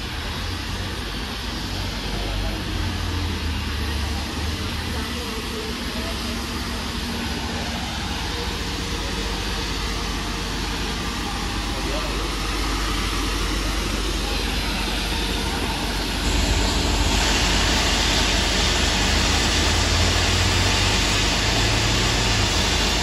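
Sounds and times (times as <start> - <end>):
train carriages rolling past: 0.0 - 23.0.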